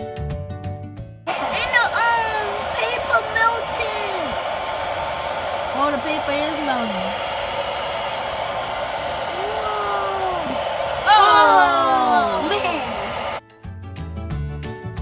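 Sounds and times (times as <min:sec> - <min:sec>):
hair dryer blowing: 0:01.3 - 0:13.4.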